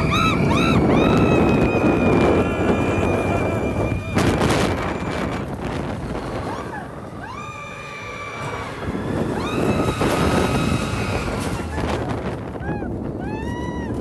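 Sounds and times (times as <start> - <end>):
riders screaming: 0.0 - 14.0
roller coaster on track: 0.0 - 14.0
wind on microphone: 0.0 - 14.0.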